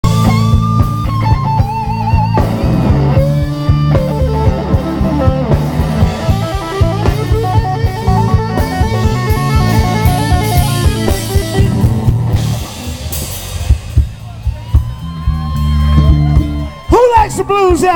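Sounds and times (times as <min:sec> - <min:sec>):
electric guitar lead: 0:00.0 - 0:17.9
live blues band: 0:00.0 - 0:17.9.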